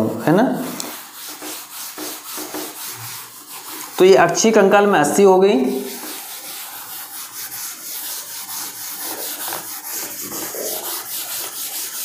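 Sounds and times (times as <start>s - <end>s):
cloth rubbing on chalkboard: 0.0s - 12.0s.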